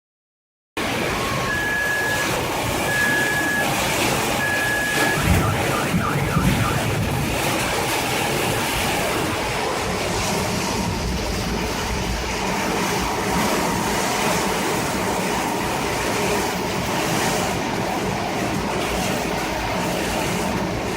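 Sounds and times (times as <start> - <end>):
tornado winds roaring: 0.8 - 20.9.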